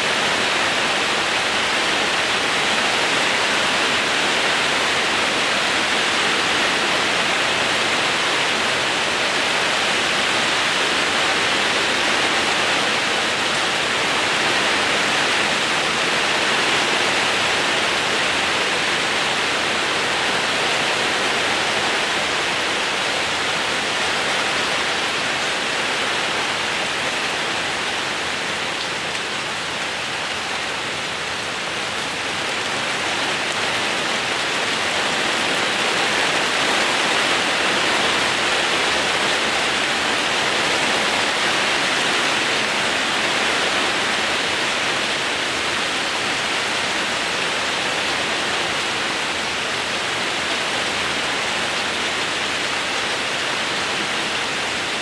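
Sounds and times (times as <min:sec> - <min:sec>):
fine rain pattering on roof: 0:00.0 - 0:55.0.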